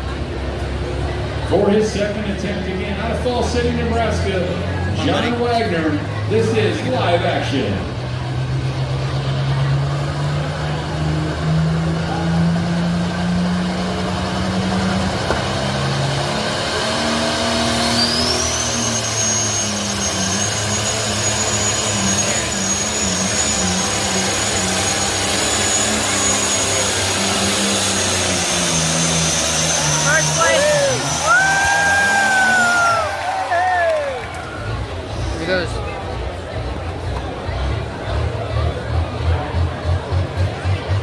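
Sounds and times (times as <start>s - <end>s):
diesel engine revving under load: 0.0s - 41.0s.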